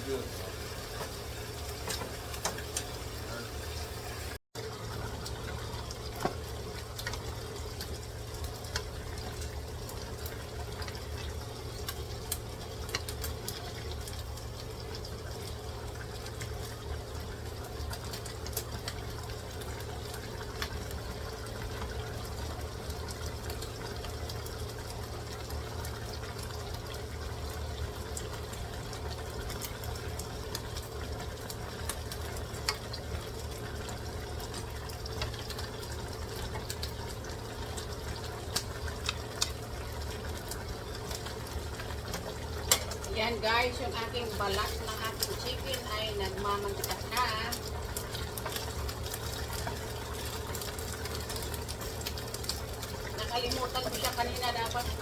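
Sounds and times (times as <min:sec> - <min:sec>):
chicken sizzling and bubbling: 0:00.0 - 0:55.0
low steady hum: 0:00.0 - 0:55.0.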